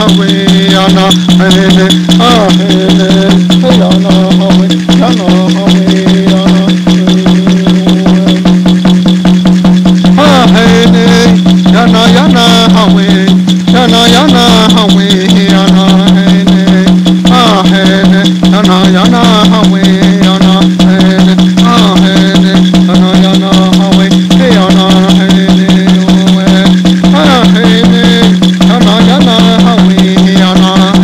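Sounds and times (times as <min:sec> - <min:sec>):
person chanting: 0:00.0 - 0:09.2, 0:10.1 - 0:31.0
rattle shaken rapidly: 0:00.0 - 0:31.0.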